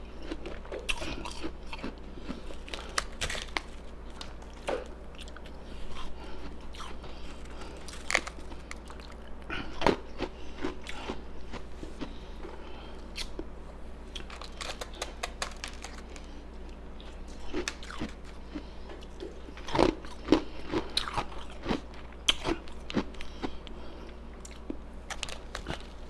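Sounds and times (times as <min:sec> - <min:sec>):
ice crunching being chewed: 0:00.0 - 0:13.5, 0:14.1 - 0:26.0.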